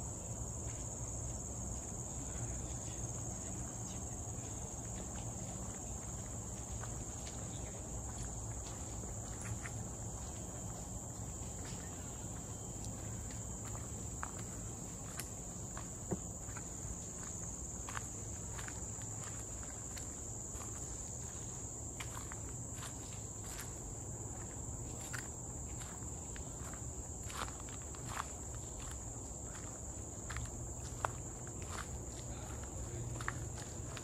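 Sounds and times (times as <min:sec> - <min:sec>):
insects droning: 0:00.0 - 0:34.0
footsteps on a trail: 0:00.5 - 0:34.0.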